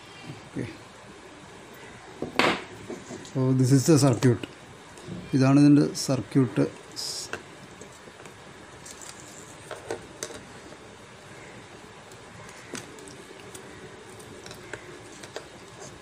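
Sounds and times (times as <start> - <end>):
background hiss: 0.0 - 14.2.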